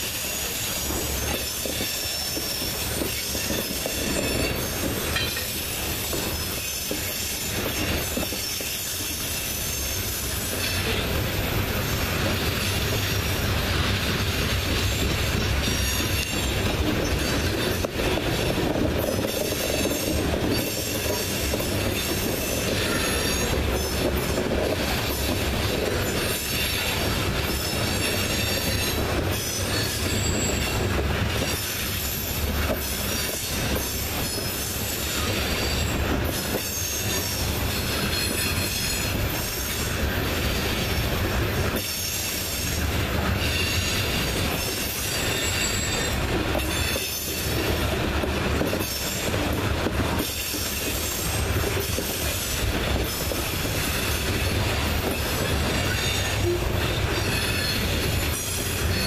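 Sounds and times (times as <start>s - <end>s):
steel wheel squeal: 0.0s - 13.3s, 13.9s - 49.5s, 50.2s - 59.0s
freight train cars rumbling past: 0.0s - 59.0s.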